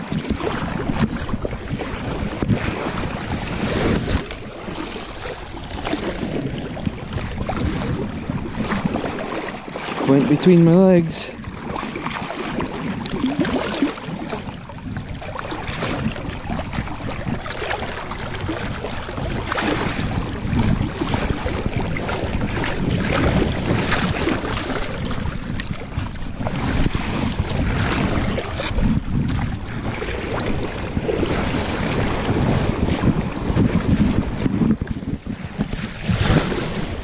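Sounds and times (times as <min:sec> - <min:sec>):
water splashing from wading: 0:00.0 - 0:34.5, 0:35.4 - 0:37.0
wind noise on microphone: 0:00.0 - 0:37.0.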